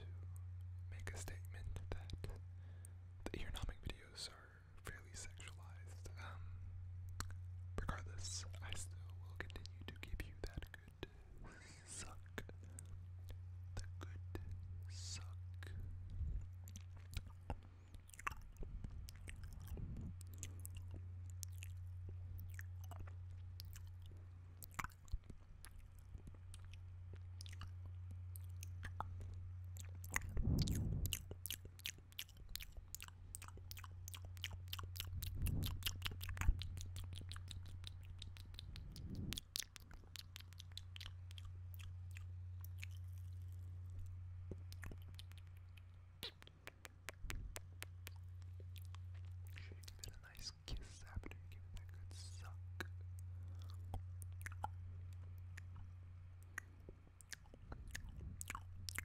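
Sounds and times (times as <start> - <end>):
steady low hum: 0.0 - 59.0
wet lip and tongue clicks: 7.1 - 10.9, 15.2 - 59.0.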